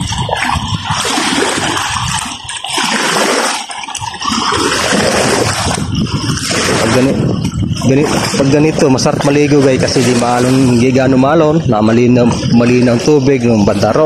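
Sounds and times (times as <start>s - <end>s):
small waves washing on sand: 0.0s - 14.0s.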